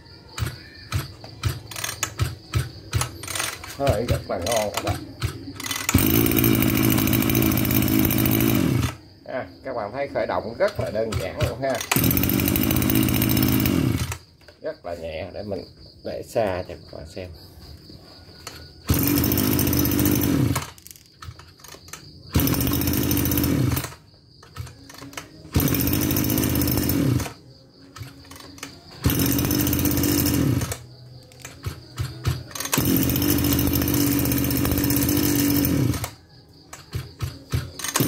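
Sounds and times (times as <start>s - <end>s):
brush cutter engine starting: 0.4s - 9.1s, 9.9s - 15.0s, 18.4s - 38.0s.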